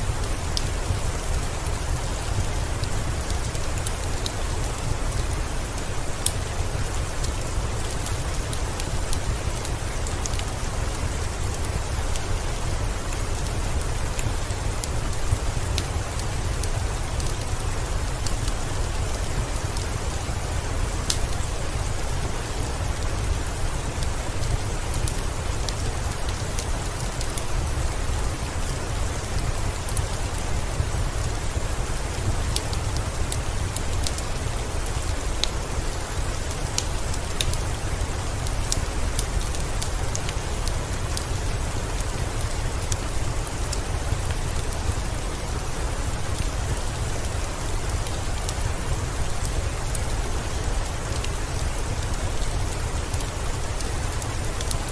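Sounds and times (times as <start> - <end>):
heavy rain: 0.0 - 54.9
wood fire crackling: 0.0 - 54.9.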